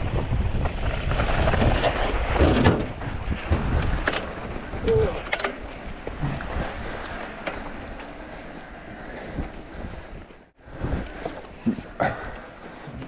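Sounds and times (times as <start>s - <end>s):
bike clicks and rattles: 0.0s - 13.0s
bike tyres on rough trail: 0.0s - 13.0s
wind buffeting microphone: 0.0s - 13.0s.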